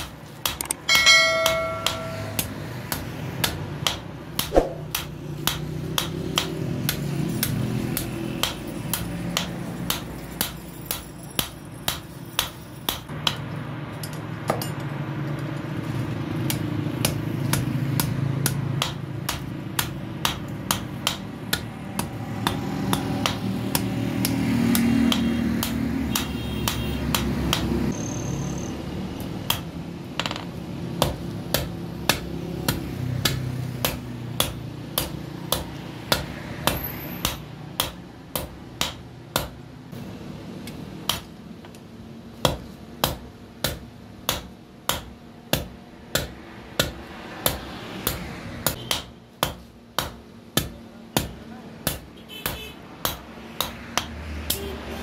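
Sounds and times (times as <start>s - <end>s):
hammer striking steel on anvil: 0.0s - 15.0s, 16.4s - 27.8s, 31.0s - 39.6s, 42.4s - 54.7s.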